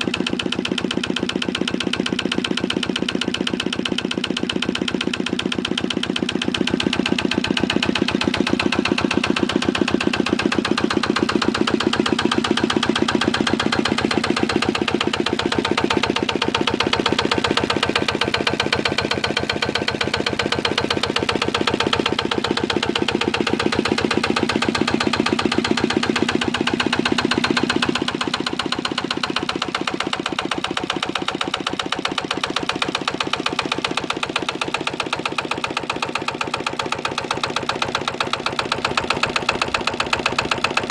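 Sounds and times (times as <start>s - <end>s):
diesel engine knocking: 0.0s - 40.9s.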